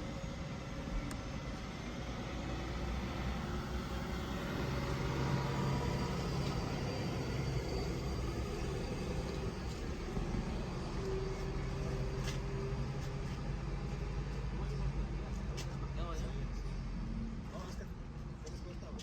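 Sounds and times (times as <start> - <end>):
truck engine rumbling: 0.0 - 18.9.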